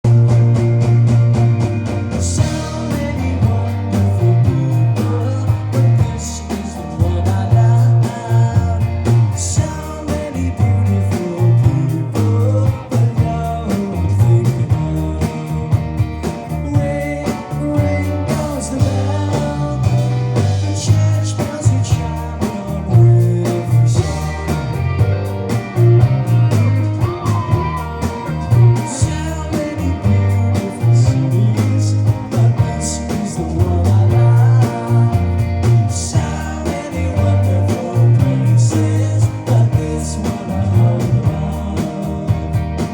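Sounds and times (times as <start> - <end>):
electric guitars: 0.0 - 42.9
person singing: 0.0 - 42.9
pulsing bass: 0.0 - 42.9
drums with cymbal crashes: 0.1 - 42.9.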